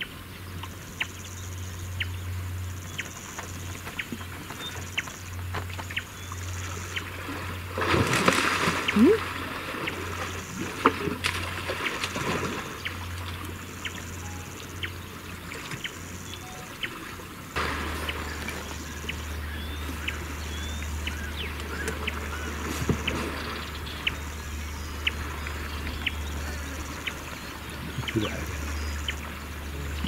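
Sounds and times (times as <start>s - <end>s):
water dripping and lapping: 2.3s - 30.0s
elephants splashing in water: 3.2s - 30.0s.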